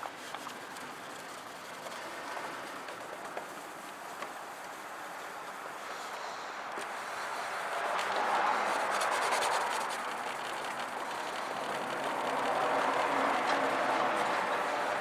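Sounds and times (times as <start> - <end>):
wipe rubbing on plastic lens: 0.0 - 15.0.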